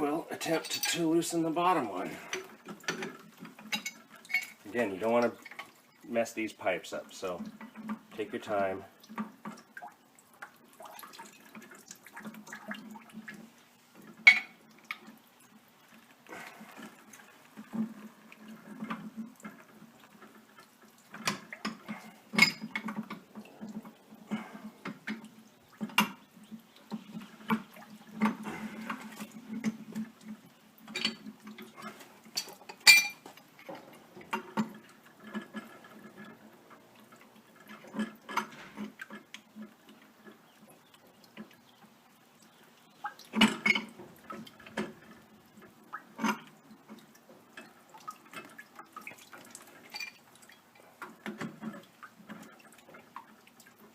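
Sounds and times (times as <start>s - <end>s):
water trickling and dripping: 0.0s - 53.9s.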